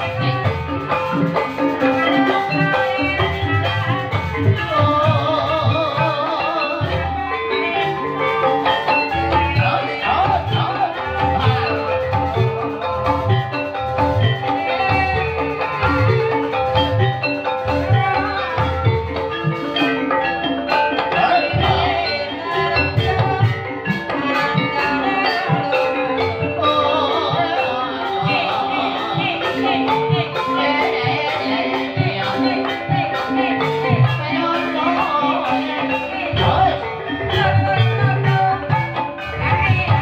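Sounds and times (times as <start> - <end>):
steady drum beat: 0.0 - 40.0
struck-bar percussion melody: 0.0 - 40.0.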